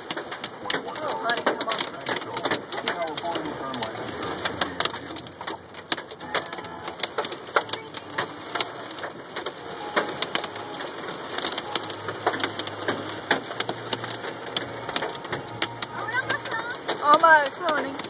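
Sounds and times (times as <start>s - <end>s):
hailstones striking a car: 0.0s - 18.0s.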